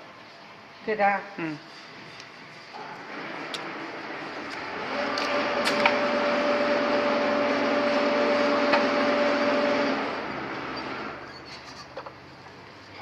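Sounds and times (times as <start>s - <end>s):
machine motor hum with steady tone: 1.7s - 13.0s.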